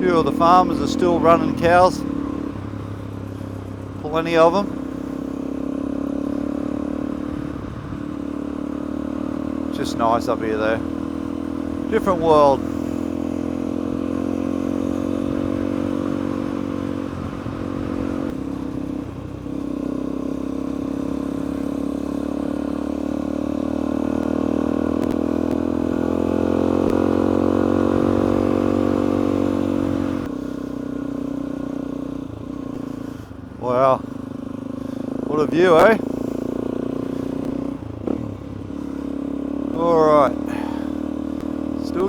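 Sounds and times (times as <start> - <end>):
motorcycle engine climbing: 0.0 - 42.0.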